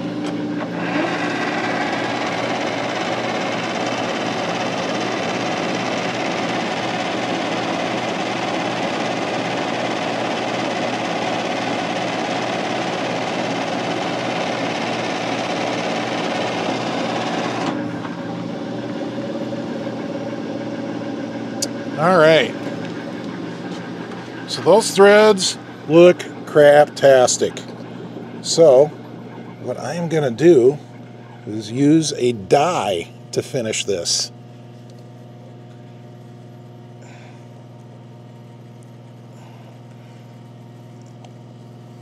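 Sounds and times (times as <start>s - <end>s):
lathe tool cutting thread: 0.0s - 34.0s
metal lathe running: 0.0s - 42.0s.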